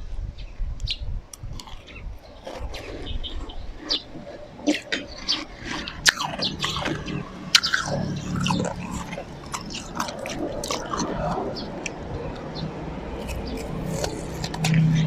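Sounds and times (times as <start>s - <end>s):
chewing crunchy ice: 1.3s - 15.0s.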